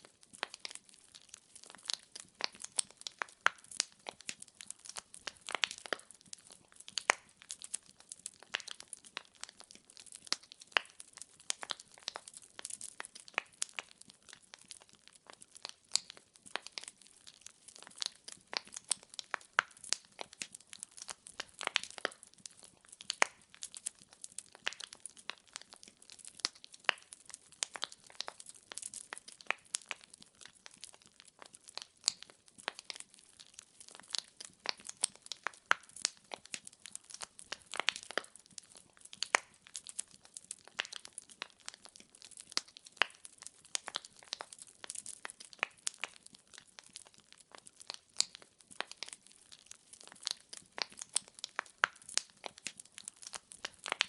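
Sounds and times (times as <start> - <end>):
faint steady hiss: 0.0 - 54.0
fire crackling and popping: 0.0 - 54.0.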